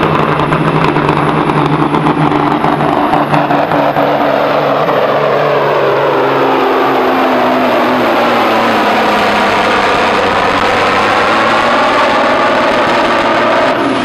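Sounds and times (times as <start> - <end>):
diesel truck engine at full power: 0.0 - 14.0.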